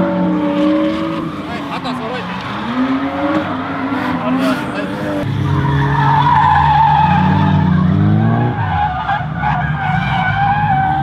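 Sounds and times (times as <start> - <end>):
small car engine revving: 0.0 - 11.0.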